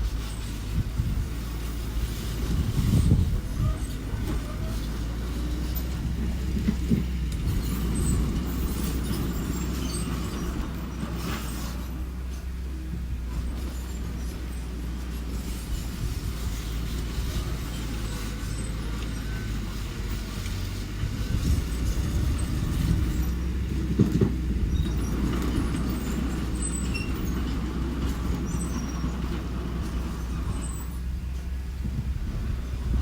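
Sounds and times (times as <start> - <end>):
earthmoving machine engine running: 0.0 - 33.0.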